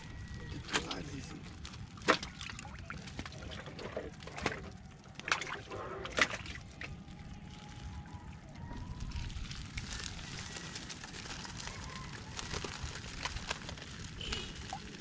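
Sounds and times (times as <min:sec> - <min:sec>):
water sloshing and dripping: 0:00.0 - 0:15.0.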